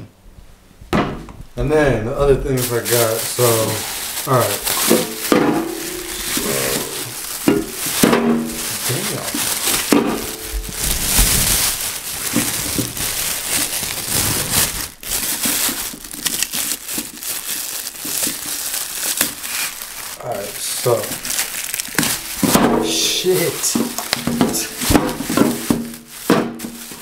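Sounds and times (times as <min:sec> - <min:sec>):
plastic bag crinkling: 0:02.5 - 0:27.0.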